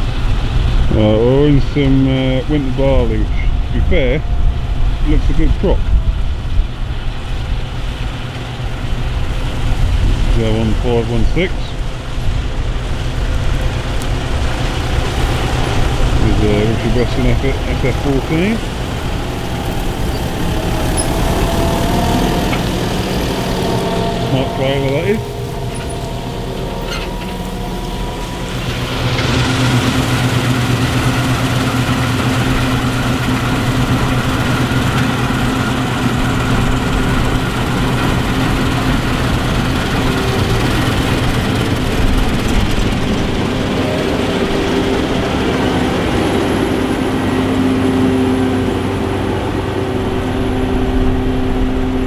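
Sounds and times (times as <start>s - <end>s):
combine harvester engine droning: 0.0s - 52.0s.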